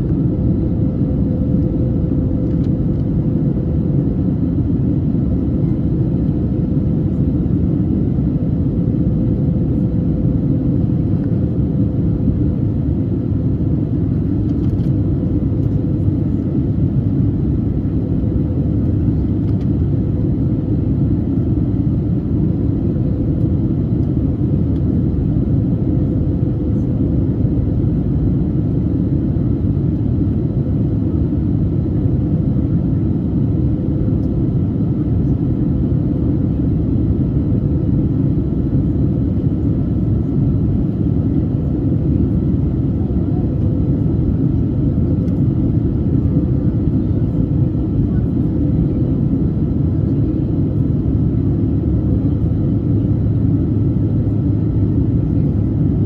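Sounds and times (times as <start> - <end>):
airplane cabin roar: 0.0 - 56.0.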